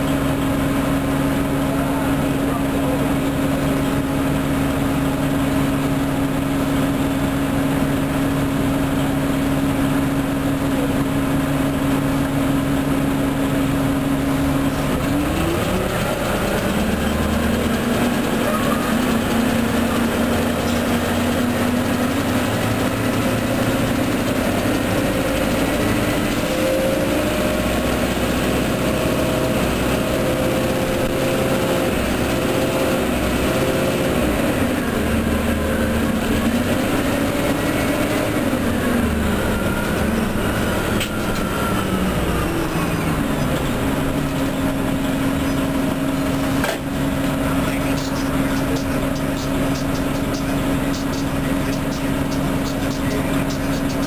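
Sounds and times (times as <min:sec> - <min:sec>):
bus engine hum: 0:00.0 - 0:54.0.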